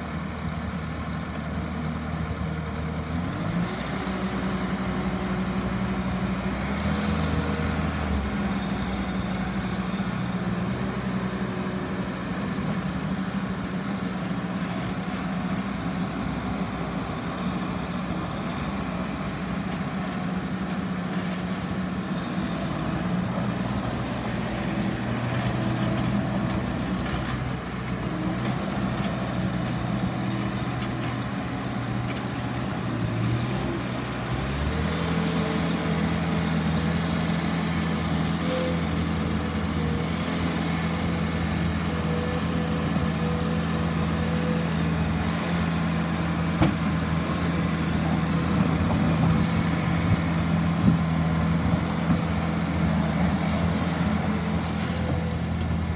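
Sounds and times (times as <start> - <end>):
skid steer diesel engine running: 0.0 - 55.9.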